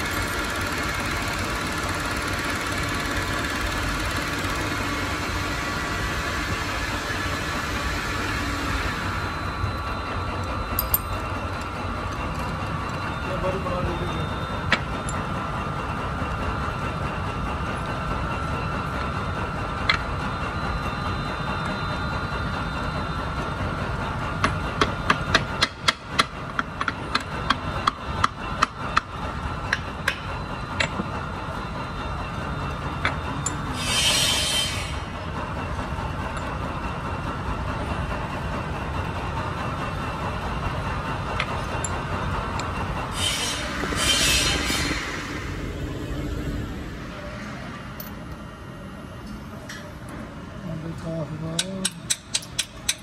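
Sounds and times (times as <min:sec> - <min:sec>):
workshop machinery hum: 0:00.0 - 0:53.0.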